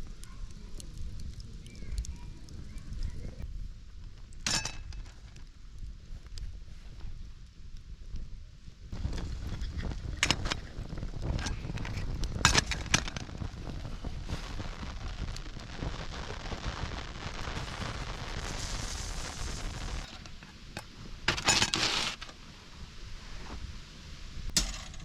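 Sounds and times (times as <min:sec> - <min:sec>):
campfire wood crackling and popping: 0:00.0 - 0:22.6.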